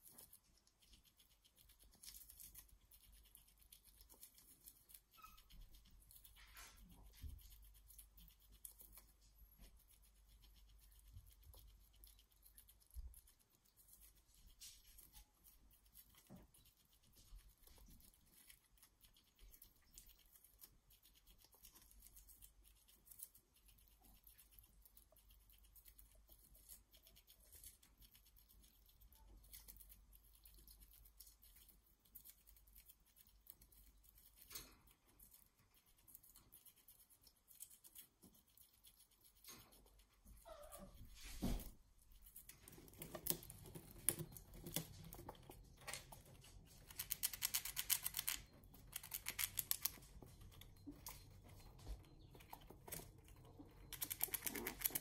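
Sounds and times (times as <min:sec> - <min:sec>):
squirrel chewing lettuce: 0:00.0 - 0:55.0.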